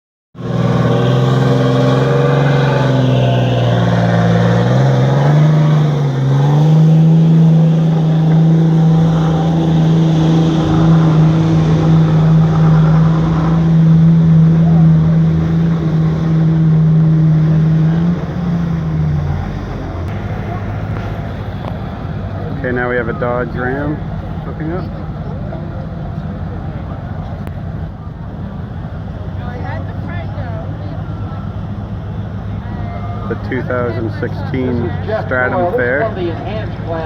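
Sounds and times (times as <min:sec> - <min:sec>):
truck engine at high revs: 0:00.4 - 0:37.0.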